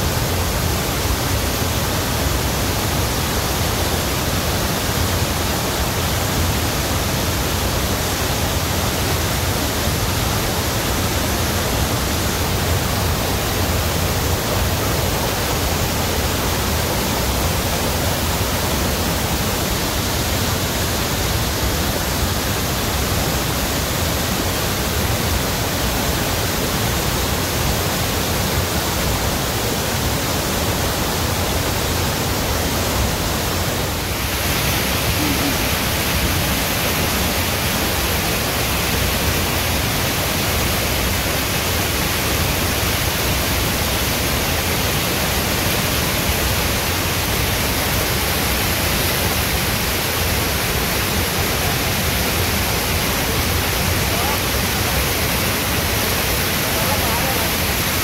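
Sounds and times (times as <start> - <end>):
waterfall and stream rushing: 0.0 - 58.0.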